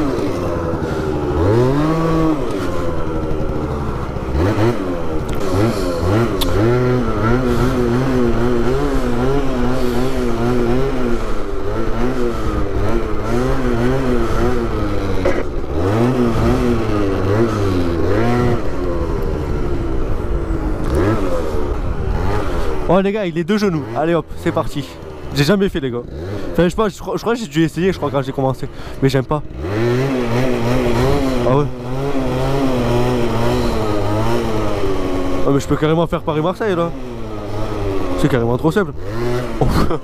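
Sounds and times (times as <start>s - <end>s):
scooter engine revving: 0.0s - 40.0s.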